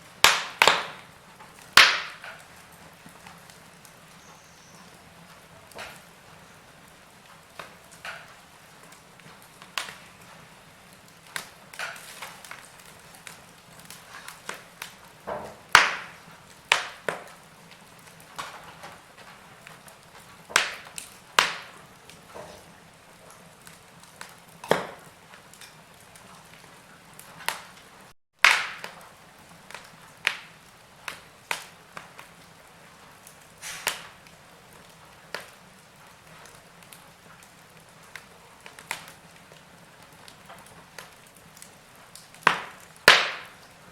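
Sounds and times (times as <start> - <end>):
faint steady hiss: 0.0 - 43.9
wood fire crackling and popping: 0.0 - 43.9.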